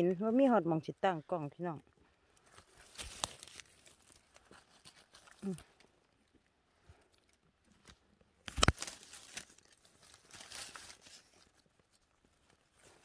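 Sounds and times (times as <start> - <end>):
rustling of dry undergrowth: 0.0 - 13.0.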